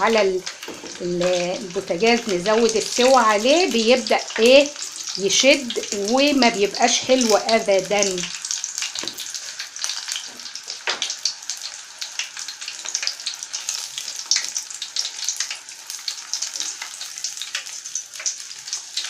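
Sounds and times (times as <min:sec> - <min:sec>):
shrimp deep-frying in oil: 0:00.0 - 0:19.0.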